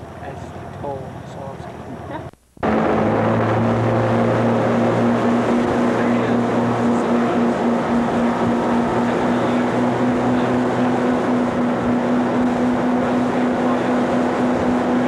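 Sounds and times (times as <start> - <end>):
boat engine running: 0.0 - 15.0
wind: 0.0 - 15.0
water rushing: 2.6 - 15.0.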